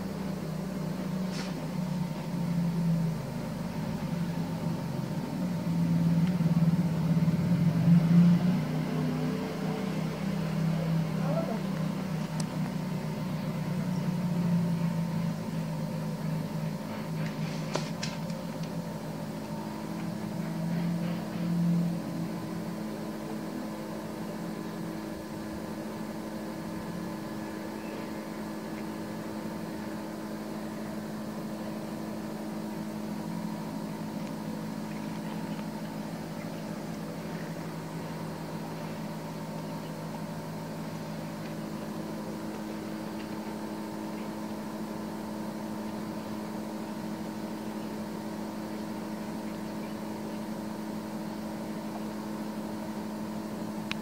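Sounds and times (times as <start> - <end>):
steady machine hum: 0.0 - 54.0.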